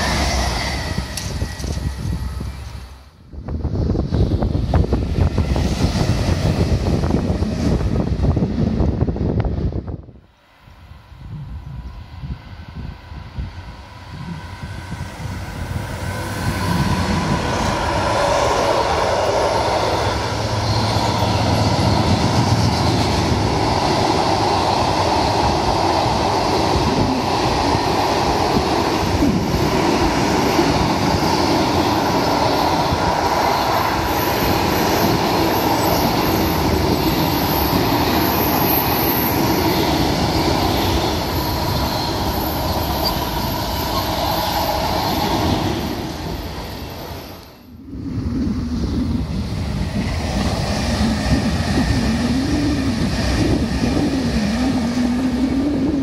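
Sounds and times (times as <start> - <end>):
freight train rumbling over rails: 0.0 - 56.0.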